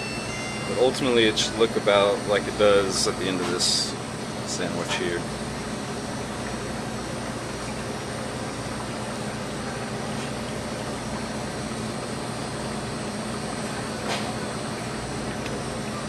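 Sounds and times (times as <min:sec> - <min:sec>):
kitchen equipment hum: 0:00.0 - 0:16.0.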